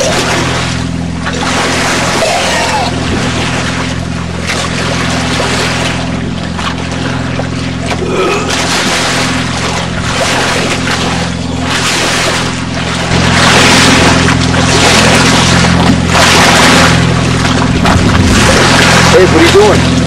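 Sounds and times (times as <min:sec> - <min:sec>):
boat motor running: 0:00.0 - 0:20.0
wind and water rushing: 0:00.0 - 0:20.0.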